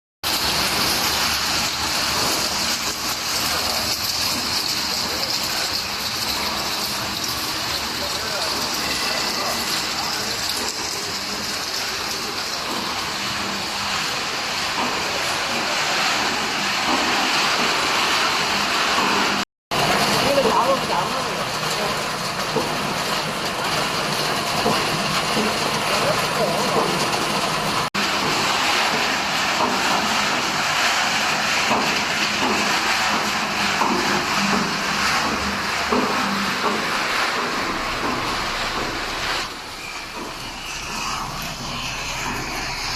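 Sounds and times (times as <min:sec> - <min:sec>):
production line machine hiss: 0:00.3 - 0:42.9.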